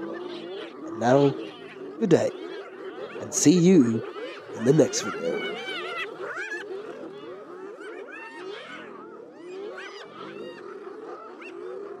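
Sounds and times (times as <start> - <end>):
hyenas calling: 0.0 - 12.0.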